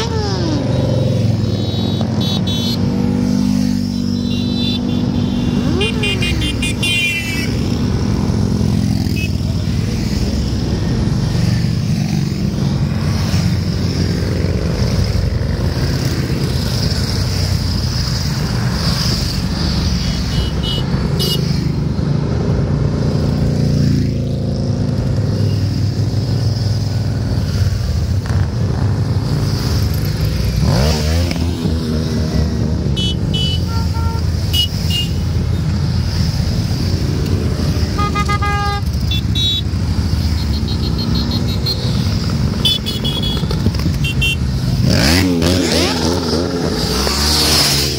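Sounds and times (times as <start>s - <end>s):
motorcycles passing: 0.0s - 47.9s.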